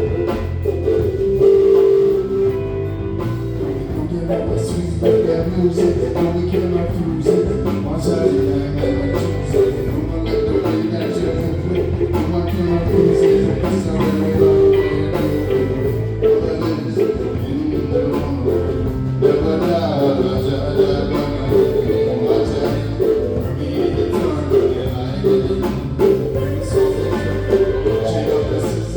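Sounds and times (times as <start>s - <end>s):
bass guitar: 0.0s - 28.9s
drum kit beat: 0.0s - 28.9s
electric guitar: 0.0s - 28.9s.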